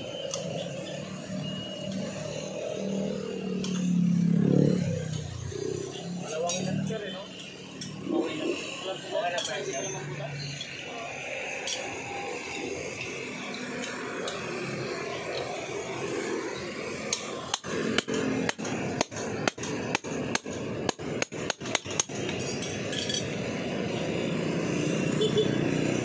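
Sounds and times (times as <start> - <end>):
street noise: 0.0 - 26.0.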